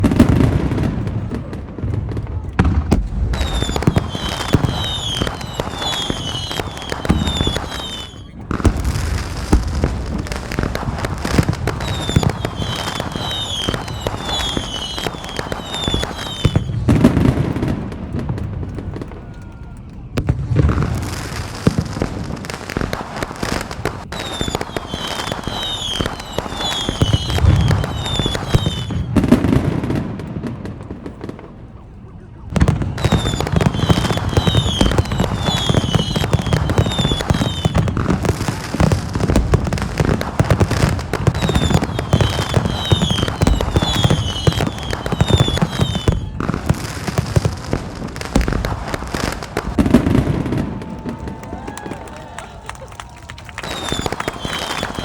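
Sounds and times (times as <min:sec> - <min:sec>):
fireworks bangs and crackling: 0:00.0 - 0:55.0
high falling firework whistles: 0:02.8 - 0:17.7, 0:18.8 - 0:30.1, 0:32.2 - 0:52.5, 0:53.5 - 0:55.0.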